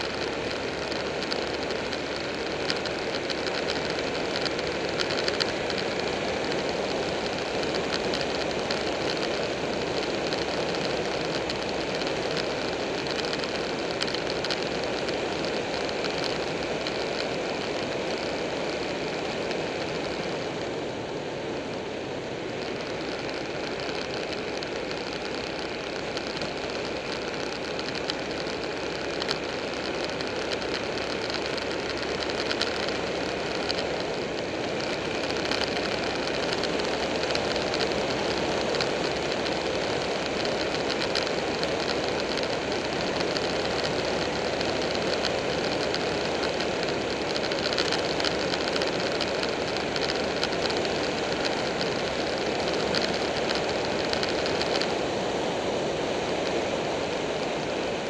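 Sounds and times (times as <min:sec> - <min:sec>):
motorcycle engine running: 0:00.0 - 0:55.2
wind rushing on microphone: 0:00.0 - 0:58.0.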